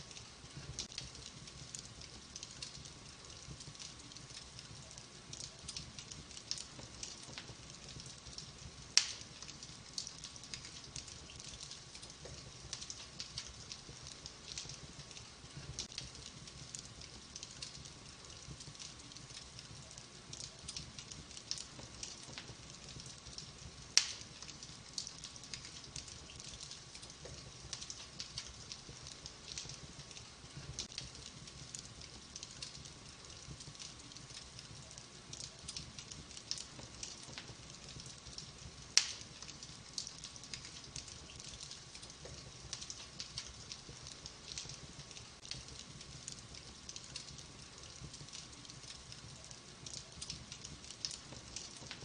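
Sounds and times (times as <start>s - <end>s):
wood fire crackling: 0.0s - 52.0s
fire popping loudly: 0.1s - 52.0s.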